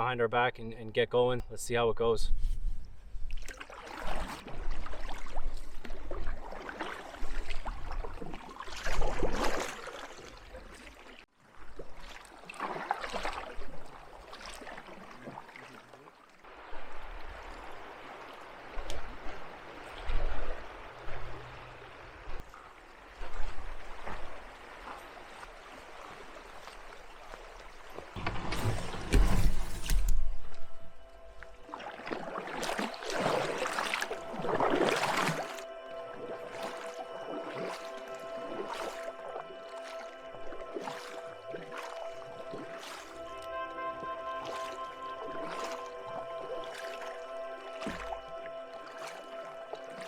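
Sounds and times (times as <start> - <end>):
paddle strokes splashing: 2.4 - 50.0
water trickling off paddle: 3.1 - 50.0.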